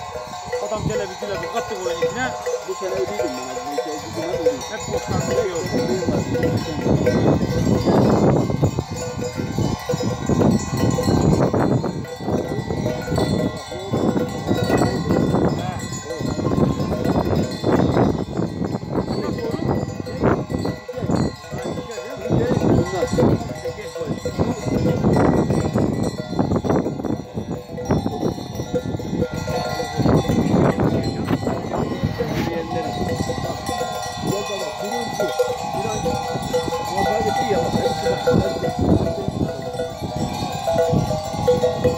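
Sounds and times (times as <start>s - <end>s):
sheep bells clinking: 0.0s - 41.9s.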